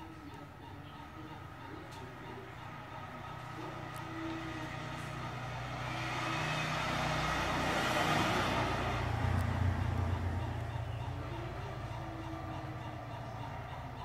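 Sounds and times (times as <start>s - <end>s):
vehicle passing by: 1.5s - 14.0s.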